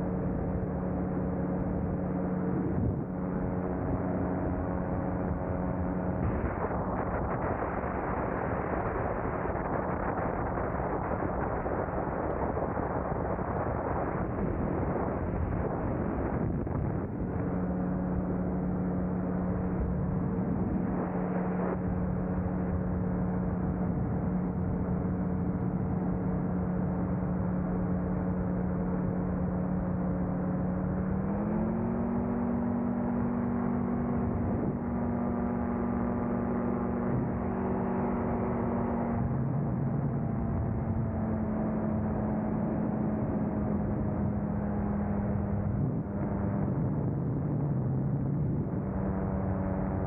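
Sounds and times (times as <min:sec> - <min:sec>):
wind rush: 0:00.0 - 0:50.0.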